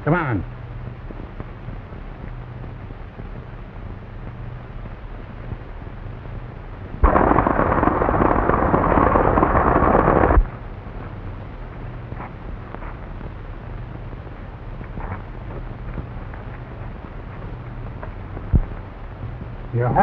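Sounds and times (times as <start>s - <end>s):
film soundtrack hiss and hum: 0.0s - 20.0s.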